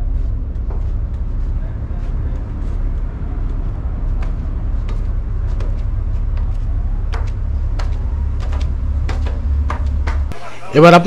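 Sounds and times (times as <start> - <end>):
flip-flop footsteps on stairs: 0.0 - 10.4
low rumble of ship engine: 0.0 - 11.0.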